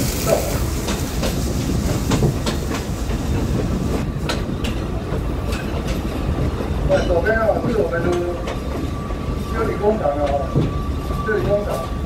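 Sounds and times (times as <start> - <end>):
train rumbling: 0.0 - 12.0
wheel clacks over rail joints: 0.2 - 11.8.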